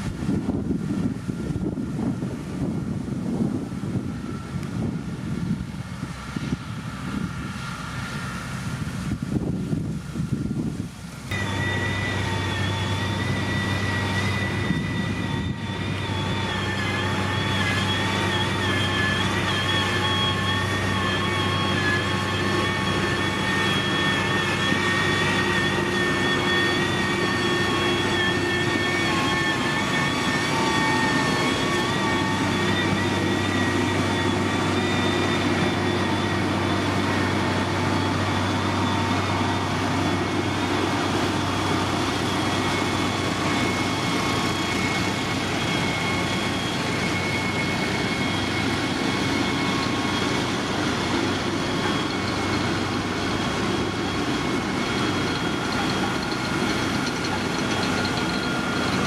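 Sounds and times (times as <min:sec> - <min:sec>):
diesel machine engine hum: 0:00.0 - 0:59.0
high wavering whine: 0:00.0 - 0:59.0.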